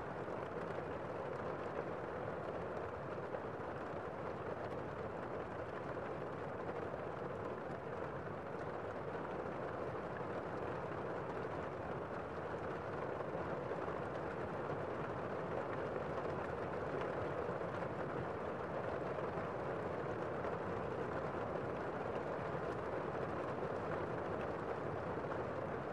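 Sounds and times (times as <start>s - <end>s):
muffled heavy rain: 0.0s - 25.9s.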